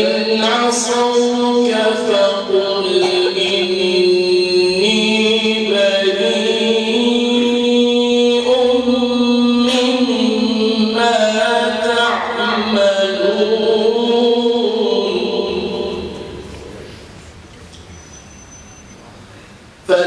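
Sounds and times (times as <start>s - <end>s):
man chanting melodically: 0.0s - 16.8s.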